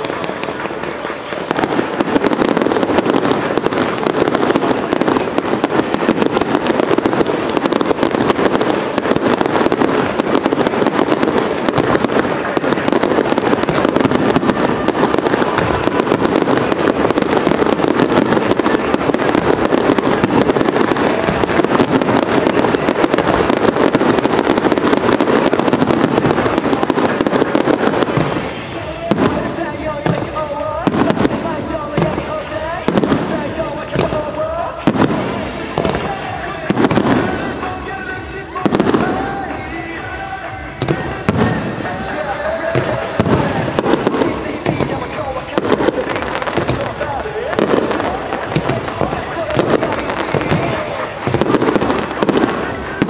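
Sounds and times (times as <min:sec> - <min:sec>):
fireworks crackling: 0:00.0 - 0:53.0.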